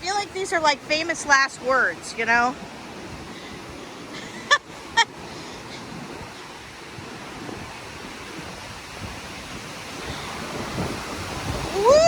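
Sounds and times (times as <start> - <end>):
ocean waves against rocks: 0.0 - 12.0.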